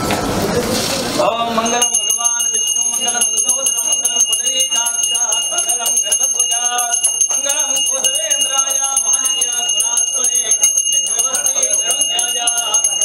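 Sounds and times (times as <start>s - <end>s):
voices: 0.0s - 13.0s
hand bell ringing rapidly: 1.6s - 13.0s.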